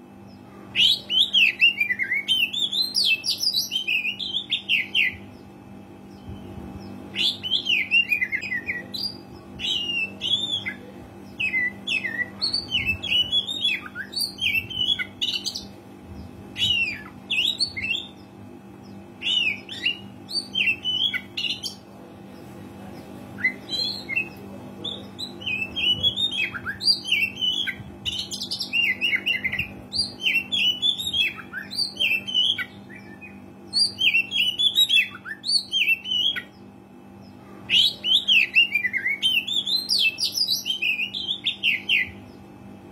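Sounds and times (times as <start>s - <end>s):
steady low hum: 0.0s - 42.9s
bird singing varied chirps: 0.2s - 22.4s, 23.3s - 42.5s.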